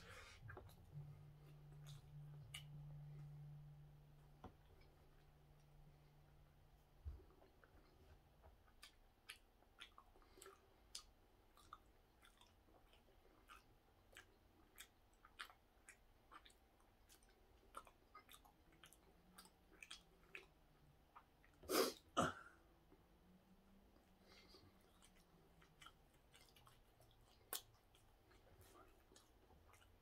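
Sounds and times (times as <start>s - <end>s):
person chewing: 0.1s - 22.2s, 23.8s - 30.0s.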